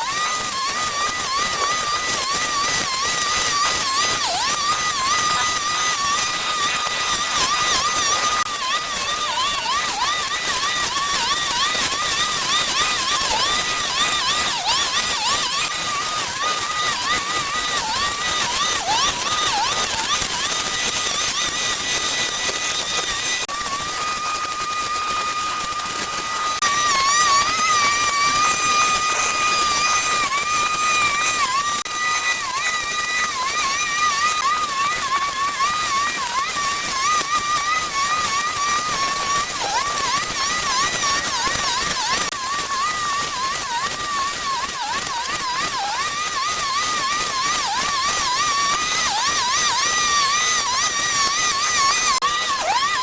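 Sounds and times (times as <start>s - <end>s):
small motor whining: 0.0s - 53.0s.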